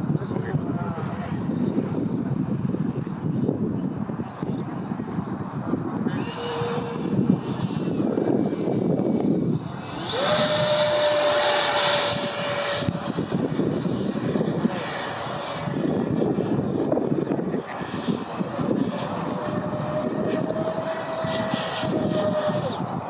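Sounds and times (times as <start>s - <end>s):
electric ducted fan whine: 0.0s - 23.0s.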